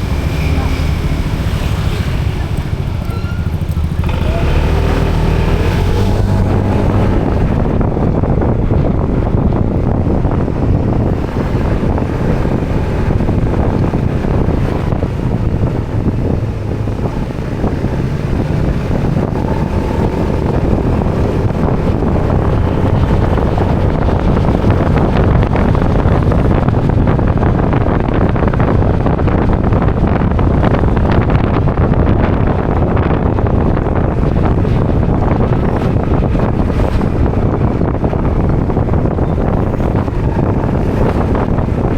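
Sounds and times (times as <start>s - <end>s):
motorbike engine running: 0.0s - 41.9s
wind buffeting microphone: 0.0s - 41.9s.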